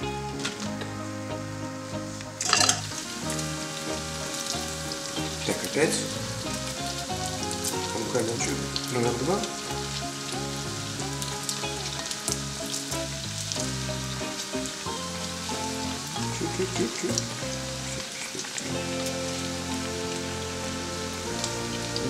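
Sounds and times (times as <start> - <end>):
background music with bass line: 0.0 - 22.0
doughnuts deep-frying in hot oil: 0.0 - 22.0.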